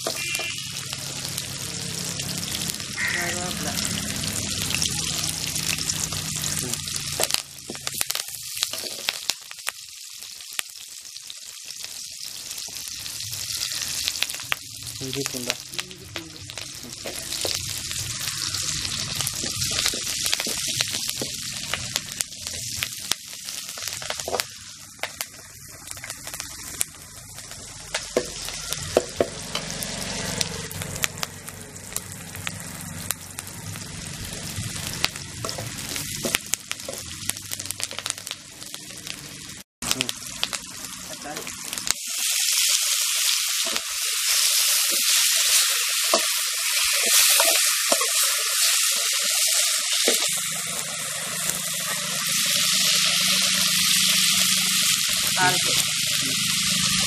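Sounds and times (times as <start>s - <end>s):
shallots sizzling in hot oil: 0.0s - 57.0s.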